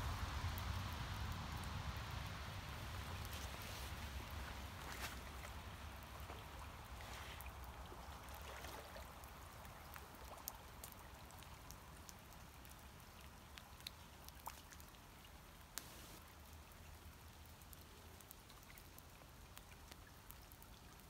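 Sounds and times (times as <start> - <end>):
lake water trickling and lapping: 0.0 - 21.0
sharp water drips: 0.0 - 21.0.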